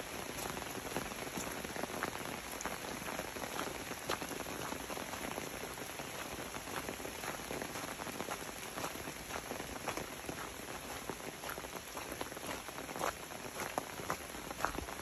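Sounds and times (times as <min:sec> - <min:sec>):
raindrops ticking close by: 0:00.0 - 0:15.0
steady rain falling: 0:00.0 - 0:15.0.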